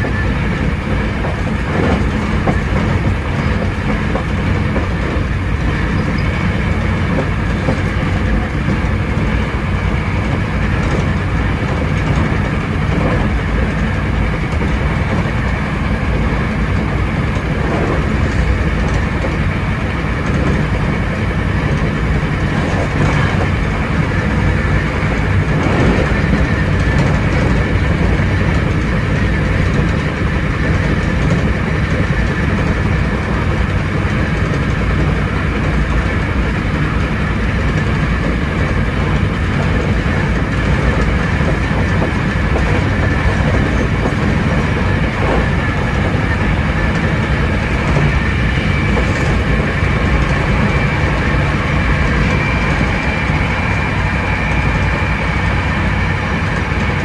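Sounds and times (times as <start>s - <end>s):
rail joint clicks: 0.0s - 57.0s
train wheels rumbling on rail: 0.0s - 57.0s.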